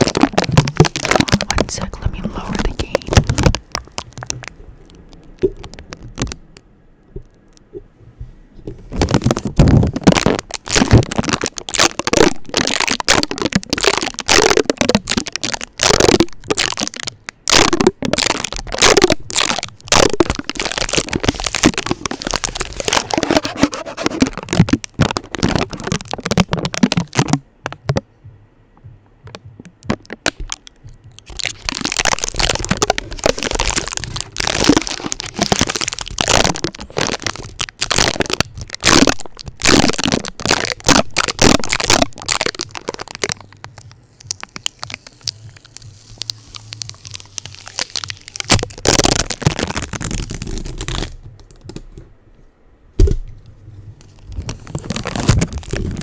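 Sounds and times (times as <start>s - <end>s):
tape ripping on microphone: 0.0s - 6.6s, 8.6s - 28.0s, 29.3s - 52.1s, 53.0s - 56.0s.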